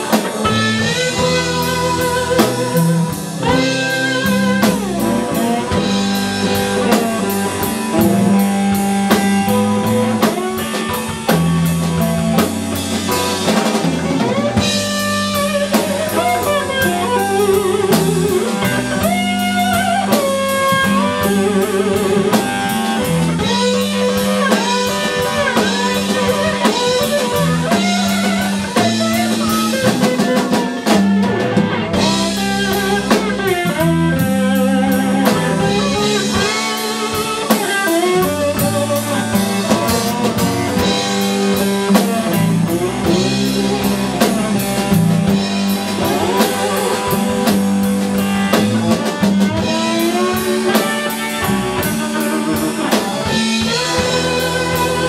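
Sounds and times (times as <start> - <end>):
drum kit steady beat: 0.0 - 55.0
electric guitars bending notes: 0.0 - 55.0.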